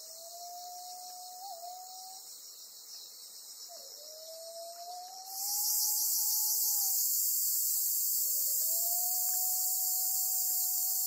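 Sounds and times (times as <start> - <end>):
cicadas calling: 0.0 - 11.0.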